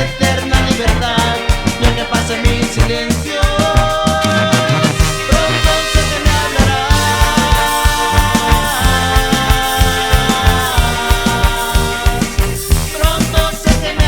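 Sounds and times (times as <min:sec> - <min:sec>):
steady low beat: 0:00.0 - 0:04.2, 0:04.8 - 0:14.0
brass chords: 0:00.0 - 0:14.0.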